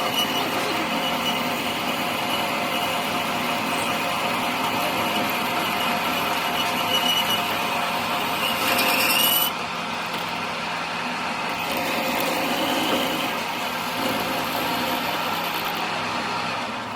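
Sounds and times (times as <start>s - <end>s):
power tool cutting steel: 0.0s - 9.6s, 11.4s - 16.8s
steady machine hum: 0.0s - 16.9s.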